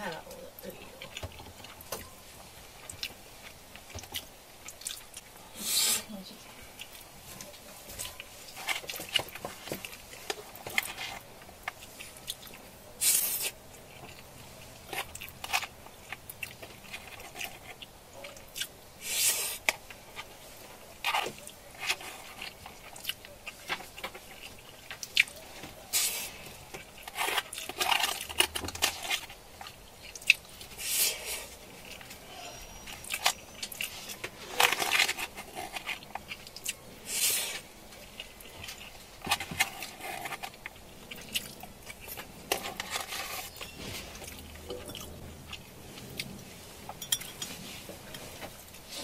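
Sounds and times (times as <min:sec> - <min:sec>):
chewing and biting: 0:06.8 - 0:47.6.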